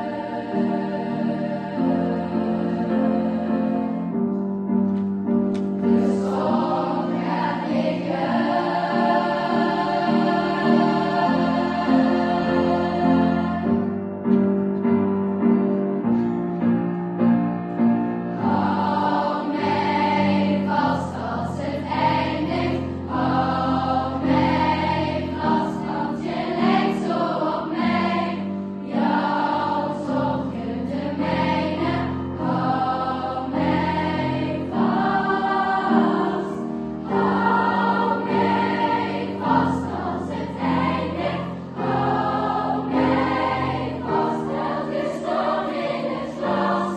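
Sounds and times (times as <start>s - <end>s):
choir singing: 0.0s - 4.4s, 5.8s - 14.4s, 17.8s - 46.9s.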